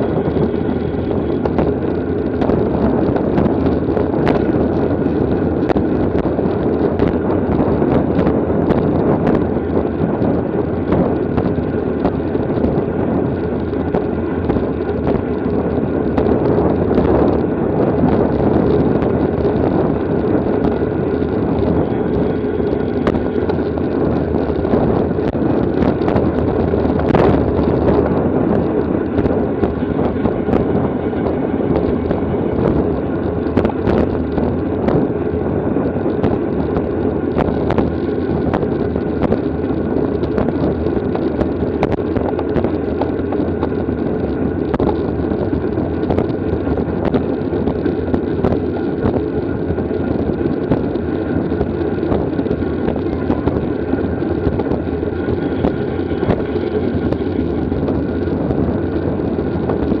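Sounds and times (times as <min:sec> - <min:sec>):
wind and road noise: 0:00.0 - 1:00.0.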